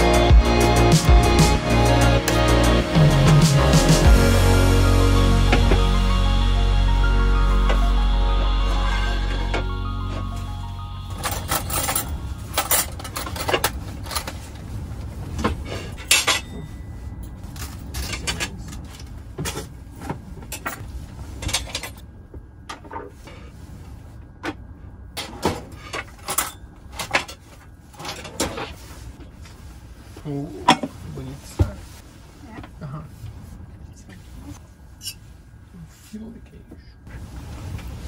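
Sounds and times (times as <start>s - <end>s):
low steady rumble: 0.0s - 38.0s.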